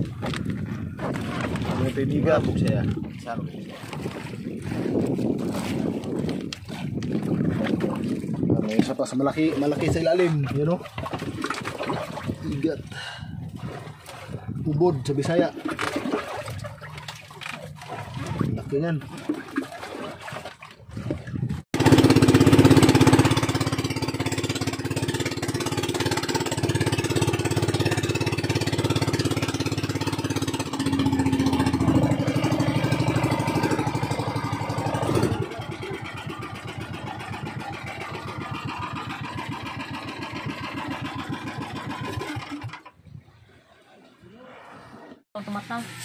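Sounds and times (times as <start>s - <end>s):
small boat engine running: 0.0s - 43.0s.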